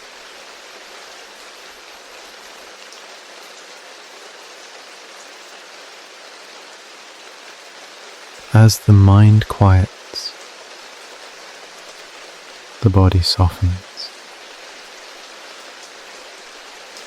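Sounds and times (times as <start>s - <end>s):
gentle rain hiss: 0.0s - 17.0s.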